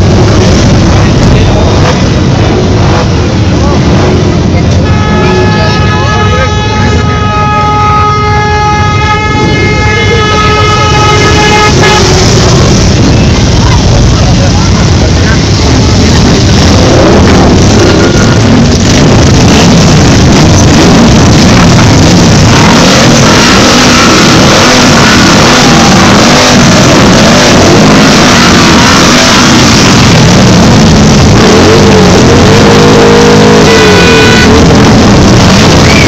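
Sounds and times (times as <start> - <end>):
motorcycle engines revving: 0.0 - 36.0
steady pitched tone: 0.0 - 36.0.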